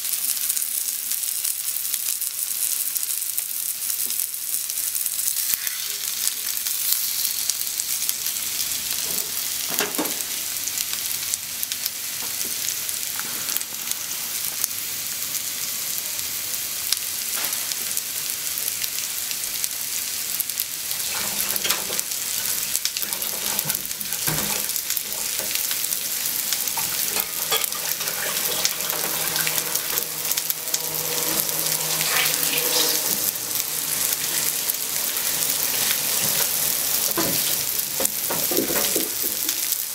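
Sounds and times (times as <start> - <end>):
meat sizzling in a frying pan: 0.0 - 39.9
oil crackling and popping: 0.0 - 39.9.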